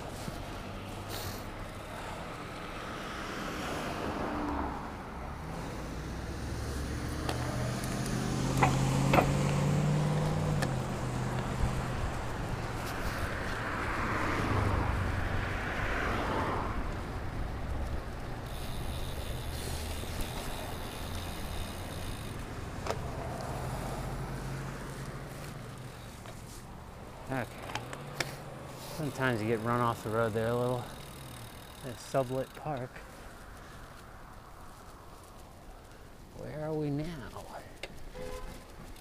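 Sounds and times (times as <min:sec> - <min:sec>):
car tyre noise: 0:00.0 - 0:39.0
steady low traffic rumble: 0:00.0 - 0:39.0
vehicle engine drone: 0:00.0 - 0:39.0.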